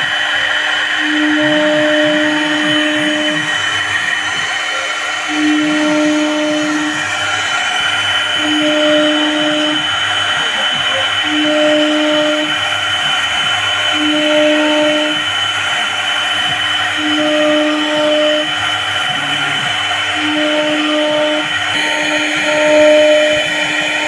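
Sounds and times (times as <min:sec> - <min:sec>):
cnc router spindle whine: 0:00.0 - 0:24.0
low machine hum: 0:00.0 - 0:24.0.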